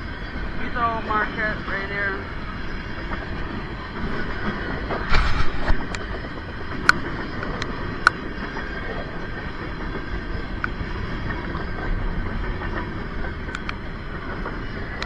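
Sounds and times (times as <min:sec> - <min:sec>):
freight train wheels rumbling on rail: 0:00.0 - 0:15.0
train clatter: 0:00.0 - 0:15.0.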